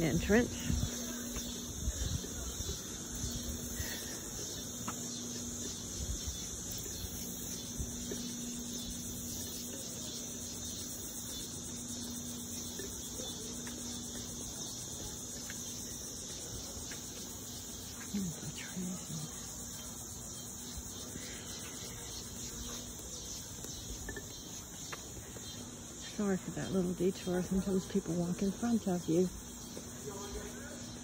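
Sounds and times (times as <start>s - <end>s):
insects droning in chorus: 0.0s - 31.0s.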